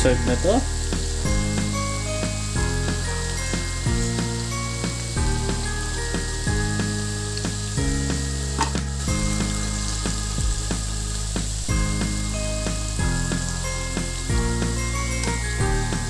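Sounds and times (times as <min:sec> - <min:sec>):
background music with beat: 0:00.0 - 0:16.0
food deep-frying in oil: 0:00.0 - 0:16.0.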